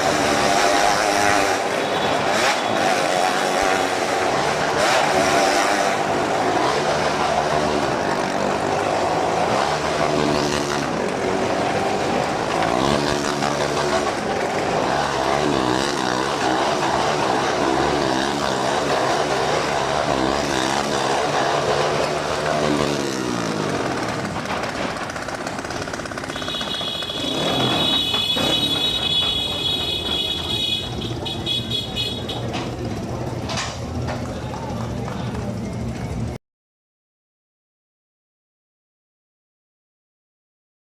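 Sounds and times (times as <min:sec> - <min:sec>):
motorcycle engines revving: 0:00.0 - 0:36.4.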